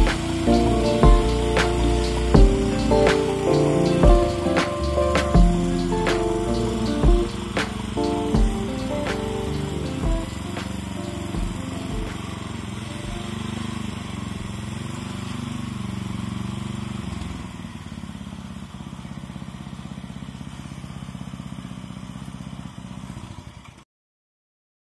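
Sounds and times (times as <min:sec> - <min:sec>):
small petrol engine running: 0:00.0 - 0:23.8.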